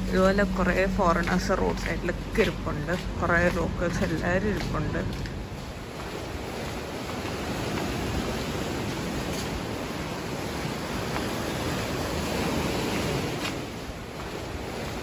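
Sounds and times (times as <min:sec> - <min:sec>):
waves breaking on shore: 0:00.0 - 0:15.0.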